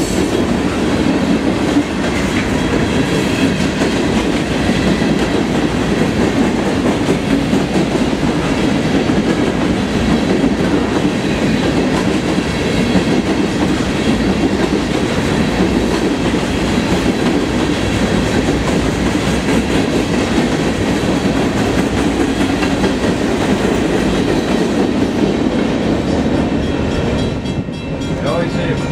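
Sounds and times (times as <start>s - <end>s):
train wheels on rails: 0.0s - 28.9s.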